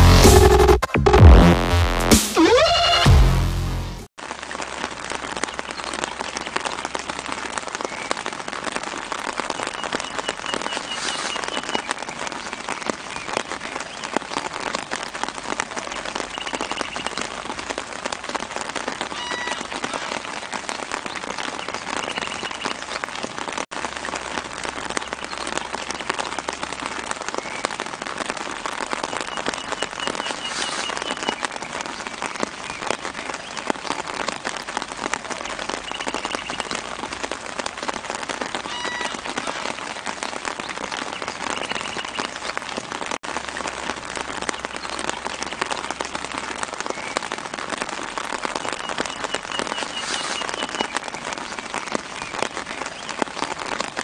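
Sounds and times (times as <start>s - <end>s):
steady rain patter: 4.1s - 54.0s.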